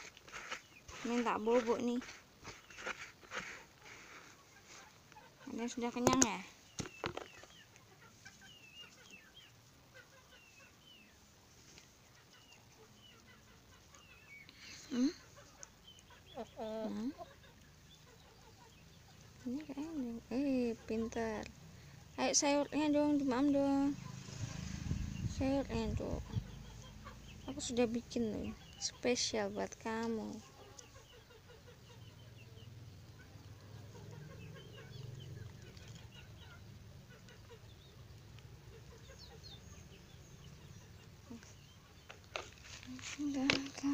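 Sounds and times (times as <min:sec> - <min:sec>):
chickens pecking feed: 0:00.0 - 0:43.9.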